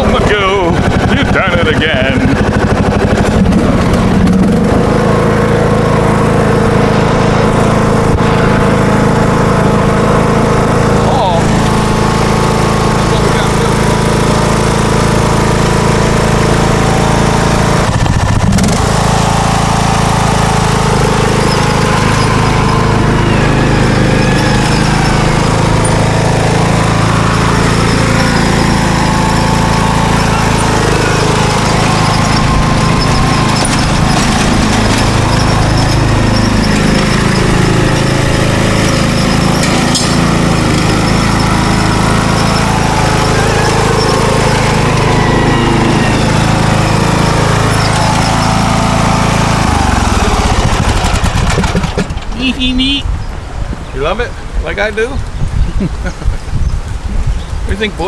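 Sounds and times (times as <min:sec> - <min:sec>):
riding lawn mower engine running: 0:00.0 - 0:58.0.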